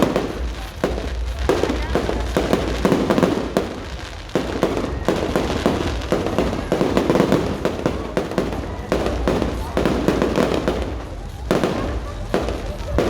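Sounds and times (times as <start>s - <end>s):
firecrackers crackling: 0.0s - 13.0s
firework bangs: 0.0s - 13.0s.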